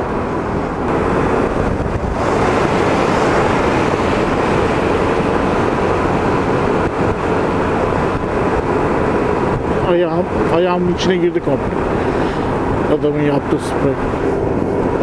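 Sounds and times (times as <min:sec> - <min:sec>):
road noise: 0:00.0 - 0:15.0
tyres on wet tarmac: 0:00.0 - 0:15.0
wind rush: 0:00.0 - 0:15.0.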